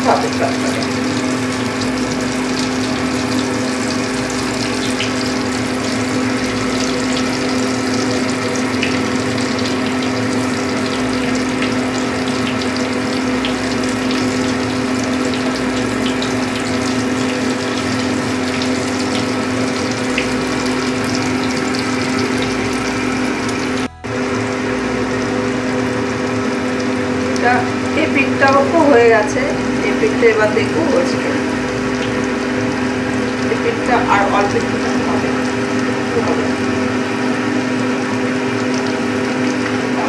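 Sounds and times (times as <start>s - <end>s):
food sizzling in hot oil: 0.0s - 40.0s
steady low hum: 0.0s - 40.0s.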